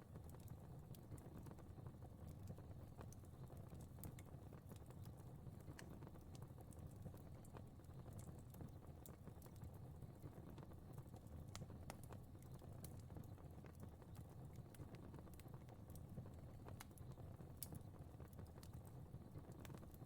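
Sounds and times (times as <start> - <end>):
fire crackling in a fireplace: 0.0 - 20.0
low rumble of flame: 0.0 - 20.0.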